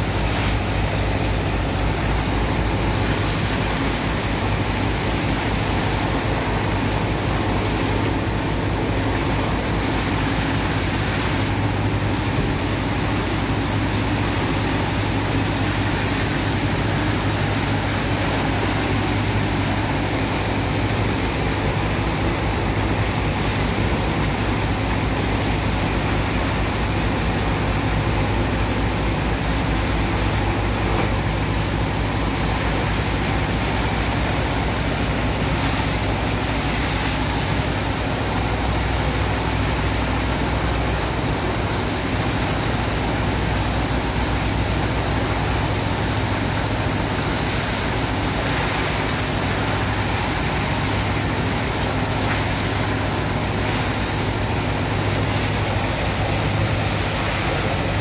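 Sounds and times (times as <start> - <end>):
pump engine humming: 0.0 - 58.0
water jets splashing on sand: 0.0 - 58.0.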